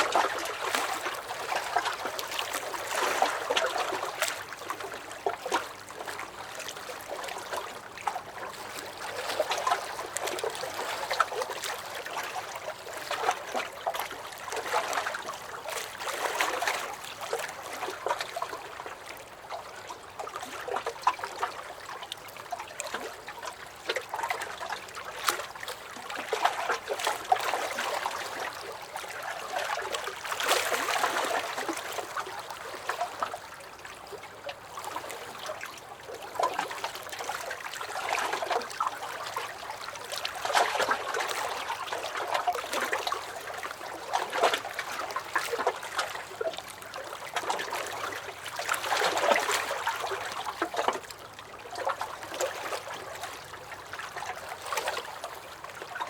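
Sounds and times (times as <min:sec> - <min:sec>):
lake waves lapping against a dock: 0:00.0 - 0:56.0.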